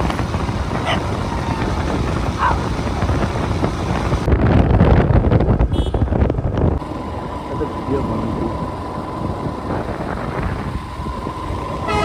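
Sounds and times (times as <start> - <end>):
loud steady rumbling: 0.0 - 12.0
wind buffeting microphone: 0.0 - 12.0.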